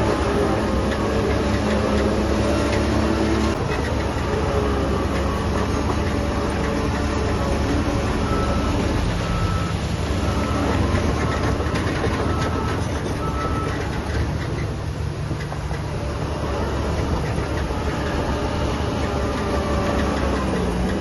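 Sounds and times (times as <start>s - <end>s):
diesel machinery engine drone: 0.0s - 21.0s.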